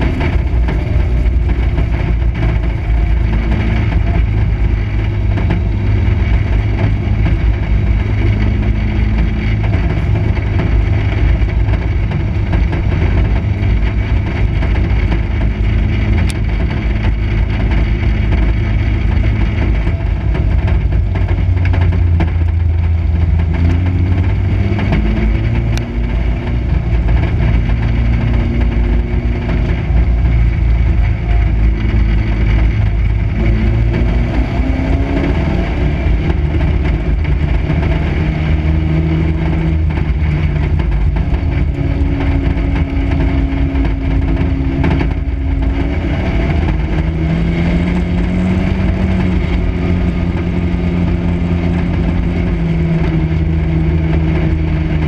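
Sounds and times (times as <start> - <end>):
race car engine droning: 0.0 - 55.0.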